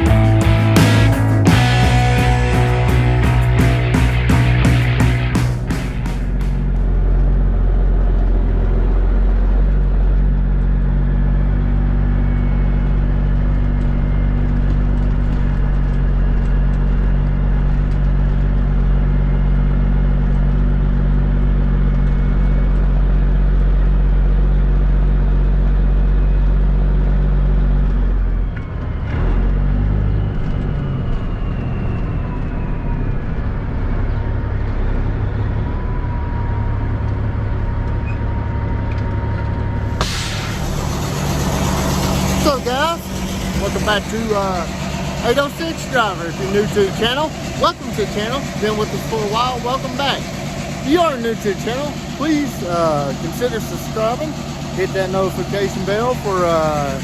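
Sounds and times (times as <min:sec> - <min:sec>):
truck diesel engine running: 0:00.0 - 0:31.8, 0:32.8 - 0:57.0
road noise: 0:00.0 - 0:57.0.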